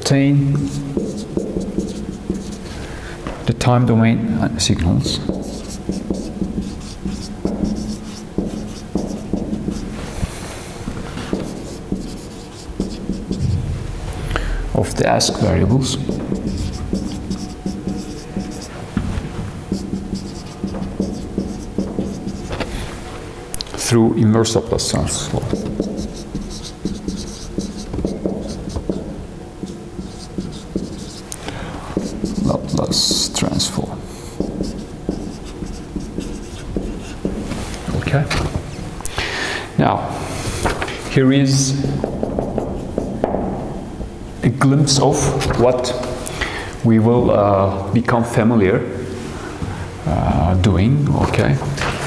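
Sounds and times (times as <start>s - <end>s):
marker pen writing on whiteboard: 0.4s - 3.7s, 4.7s - 13.6s, 14.2s - 39.4s, 40.5s - 46.4s.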